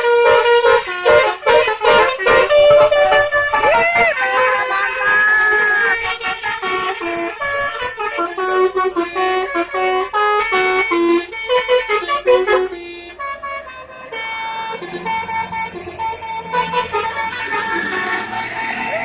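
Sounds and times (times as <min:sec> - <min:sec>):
multi-tone bus horn melody: 0:00.0 - 0:19.0.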